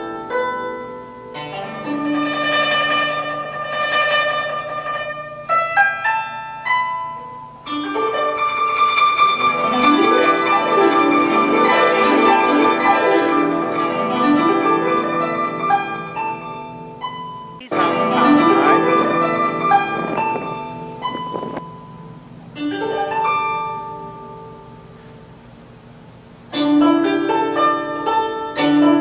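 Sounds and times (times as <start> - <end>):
plucked strings music: 0.0 - 24.6, 26.5 - 29.0.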